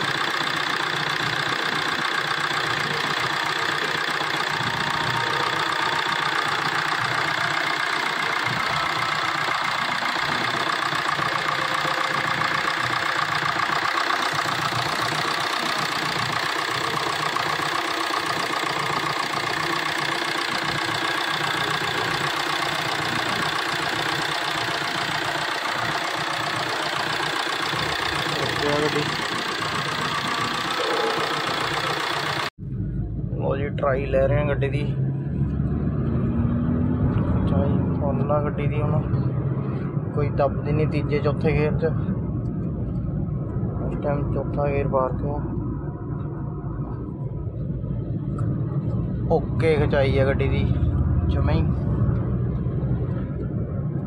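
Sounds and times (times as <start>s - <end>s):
diesel engine idling: 0.0s - 35.6s, 37.0s - 54.0s.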